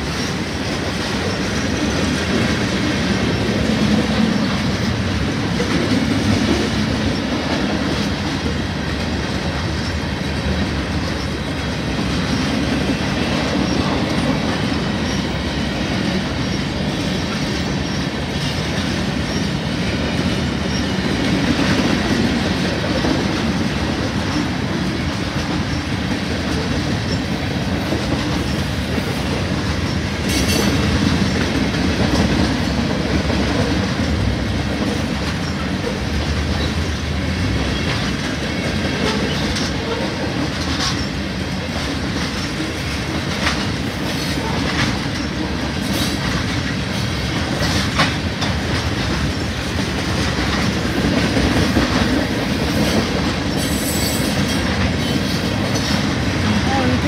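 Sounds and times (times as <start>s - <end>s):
steel wheels rumbling on rail: 0.0s - 57.0s
wheels clicking over rail joints: 0.0s - 57.0s.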